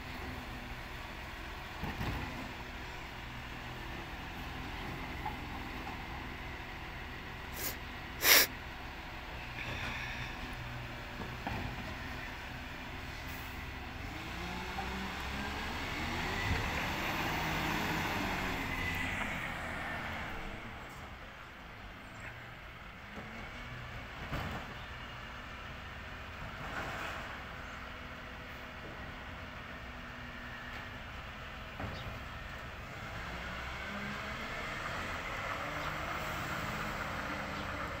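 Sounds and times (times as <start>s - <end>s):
road noise: 0.0s - 38.0s
truck engine pulling away: 0.0s - 38.0s.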